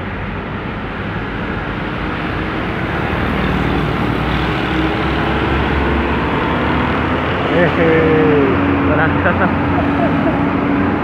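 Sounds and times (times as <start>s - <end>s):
truck diesel engine driving past: 0.1s - 11.0s.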